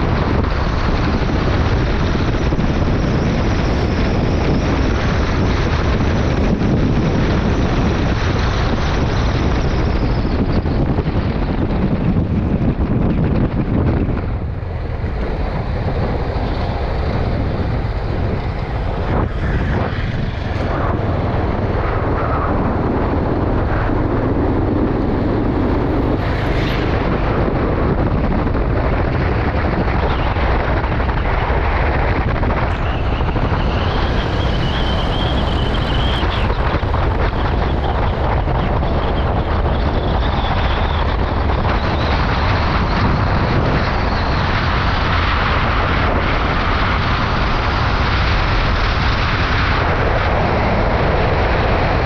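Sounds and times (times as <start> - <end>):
motorcycle engine: 0.0 - 51.6
road noise: 0.0 - 52.0
wind rushing over microphone: 0.0 - 52.0.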